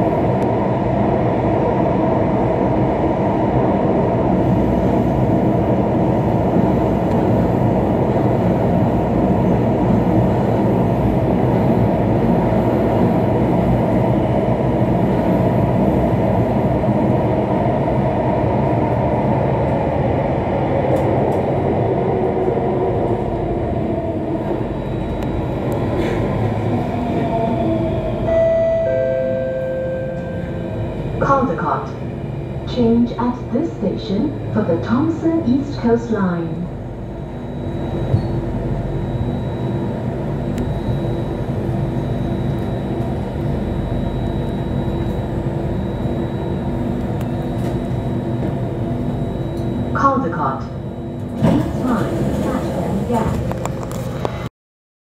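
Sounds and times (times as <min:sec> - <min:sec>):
metro train rumble and rail noise: 0:00.0 - 0:54.5.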